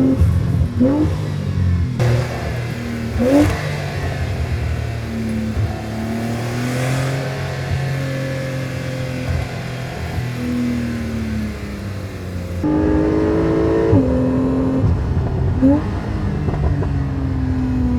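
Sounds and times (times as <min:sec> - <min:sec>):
sports car exhaust: 0:00.0 - 0:17.9.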